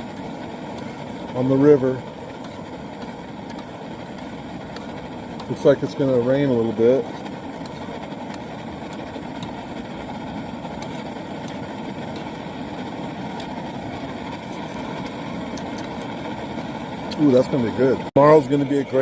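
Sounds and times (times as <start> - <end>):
camp stove burner rushing: 0.0 - 19.0.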